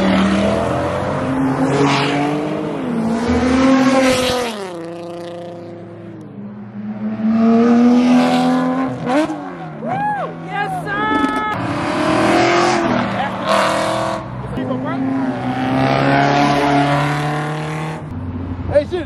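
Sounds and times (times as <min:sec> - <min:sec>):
cars accelerating hard: 0:00.0 - 0:19.0.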